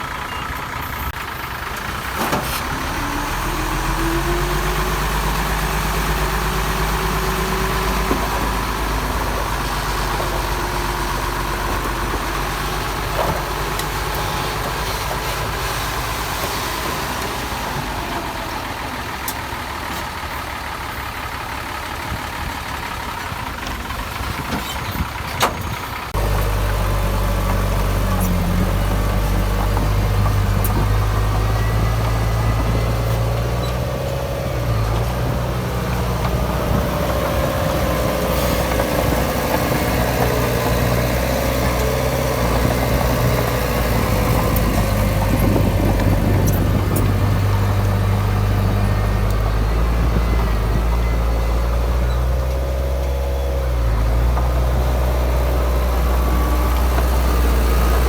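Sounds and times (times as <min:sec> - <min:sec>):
diesel engines of heavy machinery: 0:00.0 - 0:58.0.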